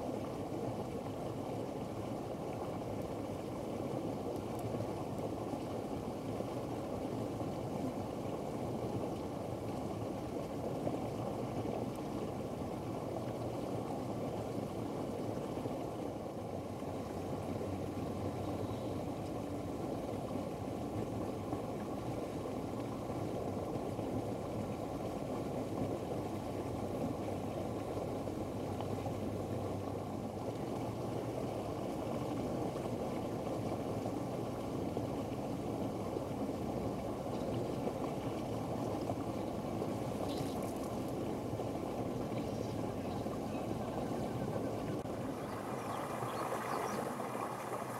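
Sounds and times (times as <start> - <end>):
low rumbling background noise: 0.0 - 47.9.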